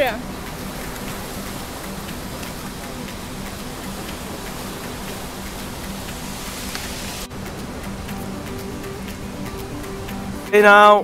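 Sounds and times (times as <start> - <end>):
rushing hiss: 0.0 - 10.4.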